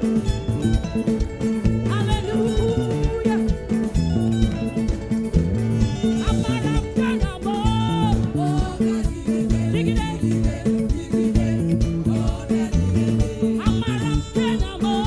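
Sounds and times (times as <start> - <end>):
bass line: 0.0 - 15.0
gospel praise band playing: 0.0 - 15.0.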